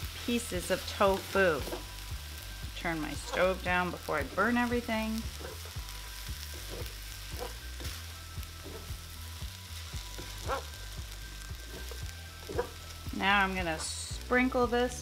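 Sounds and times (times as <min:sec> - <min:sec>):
rice sizzling in skillet: 0:00.0 - 0:15.0.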